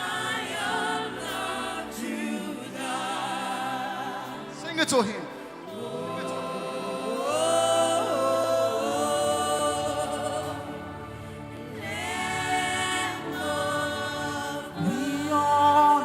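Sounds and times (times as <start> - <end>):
congregation singing: 0.0 - 16.0.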